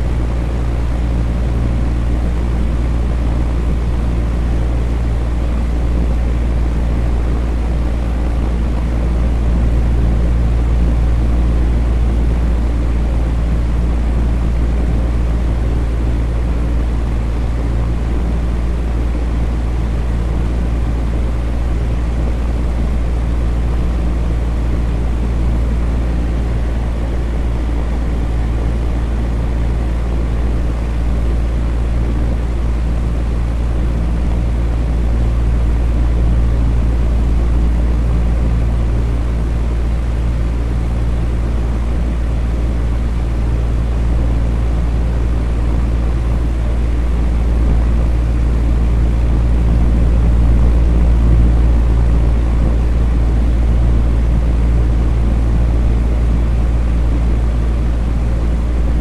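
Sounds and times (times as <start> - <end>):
electric fan motor hum: 0.0 - 59.0.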